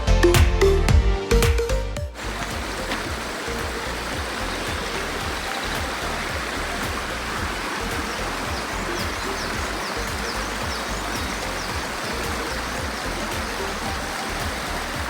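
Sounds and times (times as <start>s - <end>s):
music with heavy beat: 0.0s - 15.0s
stream flowing: 2.2s - 15.0s.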